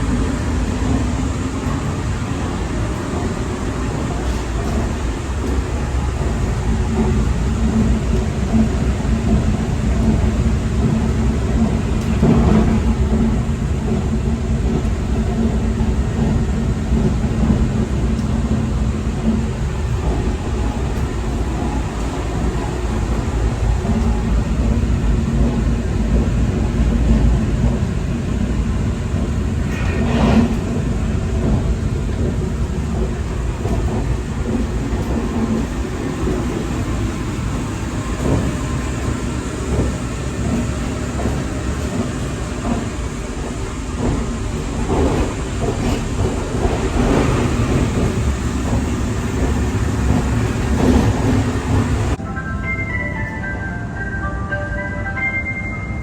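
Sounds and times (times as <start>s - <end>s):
train wheels rumbling on rails: 0.0s - 52.2s.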